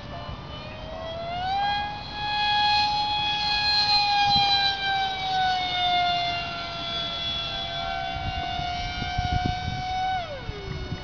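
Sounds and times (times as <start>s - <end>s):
model jet whining overhead: 0.0s - 11.0s.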